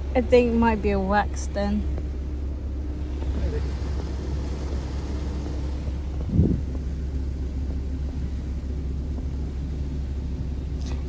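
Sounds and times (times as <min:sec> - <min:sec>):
car wash machinery rumble: 0:00.0 - 0:11.0.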